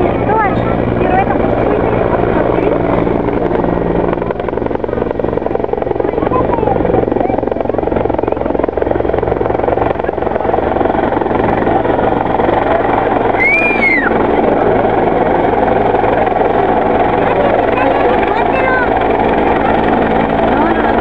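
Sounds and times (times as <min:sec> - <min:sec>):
helicopter rotor beating: 0:00.0 - 0:21.0
turbine engines running: 0:00.0 - 0:21.0.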